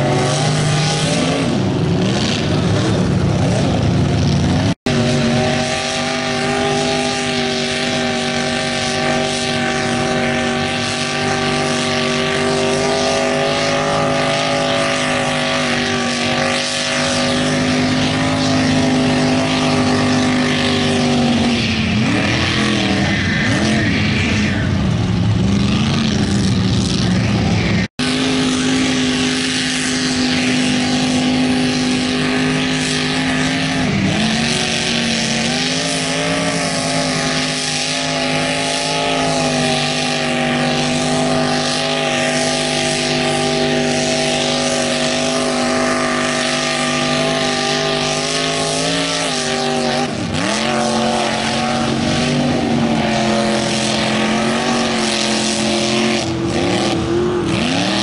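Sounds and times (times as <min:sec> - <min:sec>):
spraying mud and water: 0:00.0 - 0:24.3, 0:28.0 - 0:58.0
truck engines revving: 0:00.0 - 0:58.0.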